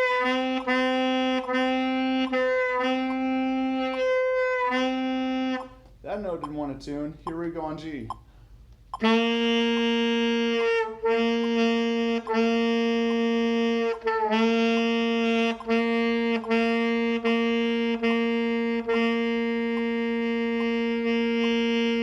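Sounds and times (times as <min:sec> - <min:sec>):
saxophone playing tongued notes: 0:00.0 - 0:08.2, 0:09.0 - 0:22.0.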